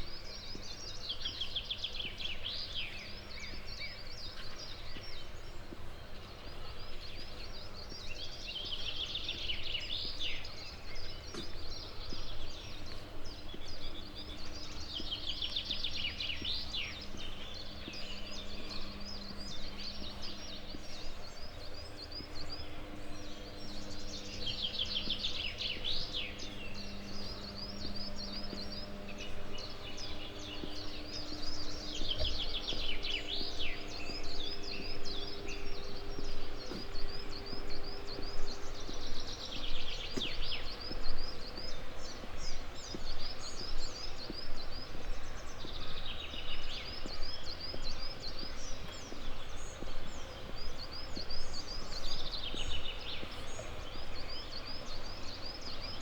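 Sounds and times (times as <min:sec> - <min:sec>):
low rumble with faint hum: 0:00.0 - 0:56.0
songbird singing trills: 0:00.0 - 0:56.0.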